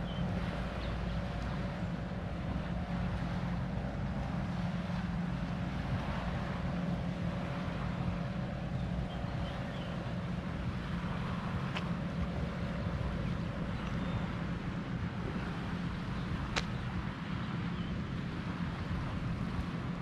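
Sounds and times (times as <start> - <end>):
low mechanical hum: 0.0 - 20.0
wind rumbling on microphone: 0.0 - 20.0.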